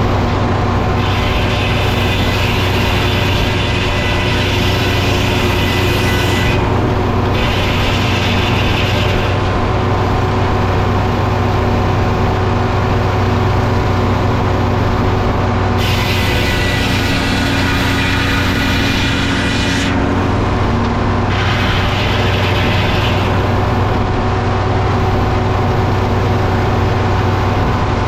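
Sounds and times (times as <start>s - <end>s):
sawmill engine drone: 0.0s - 28.0s.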